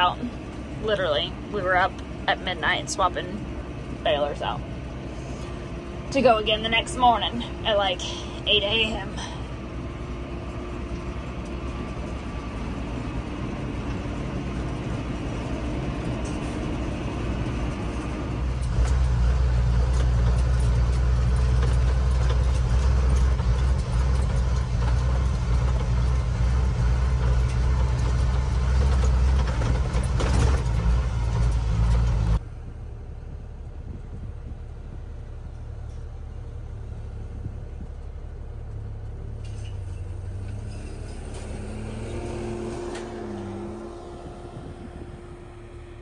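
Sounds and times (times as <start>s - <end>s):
tractor engine running: 0.0s - 46.0s
truck engine drone: 0.0s - 46.0s.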